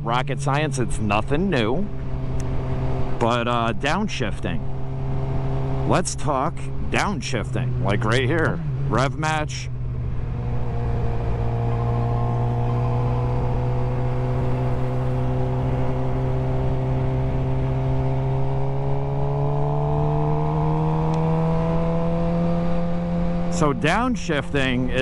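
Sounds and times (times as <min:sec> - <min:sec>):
motorcycle engine revs rising: 0:00.0 - 0:25.0
wind and road noise: 0:00.0 - 0:25.0.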